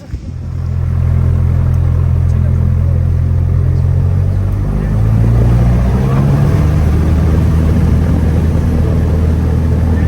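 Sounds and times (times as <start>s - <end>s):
airplane engine and propeller drone: 0.0s - 10.0s.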